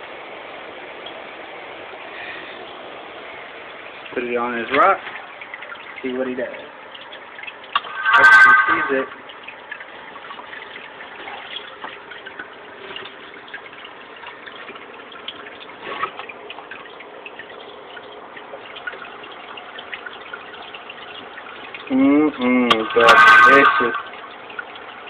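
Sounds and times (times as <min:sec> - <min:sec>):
trickling water: 0:00.0 - 0:25.0.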